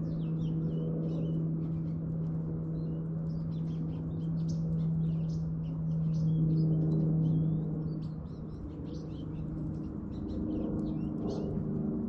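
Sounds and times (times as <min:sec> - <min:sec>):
goldfinches twittering: 0:00.0 - 0:02.0, 0:02.8 - 0:11.6
steady low hum: 0:00.0 - 0:12.0.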